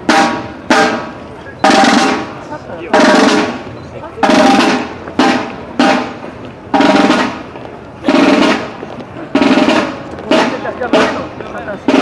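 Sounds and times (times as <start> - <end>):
marching drum rolls: 0.0 - 12.0.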